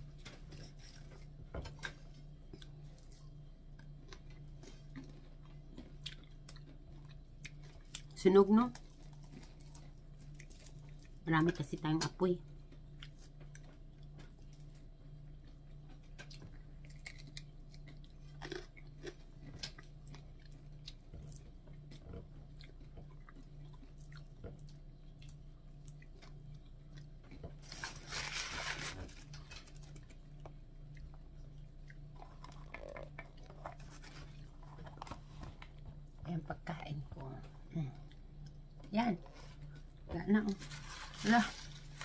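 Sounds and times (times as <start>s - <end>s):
person chewing crunchy food: 0.0s - 11.2s, 12.5s - 36.2s
steady low hum: 0.0s - 42.0s.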